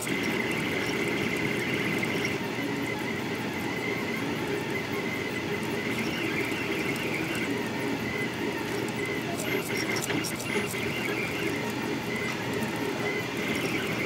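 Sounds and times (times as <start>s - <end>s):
stepper motors buzzing: 0.0s - 14.0s.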